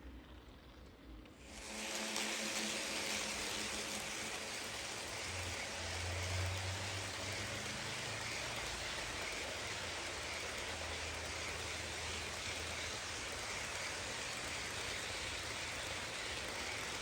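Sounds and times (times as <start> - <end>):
model train wheels on rail: 0.0 - 17.0.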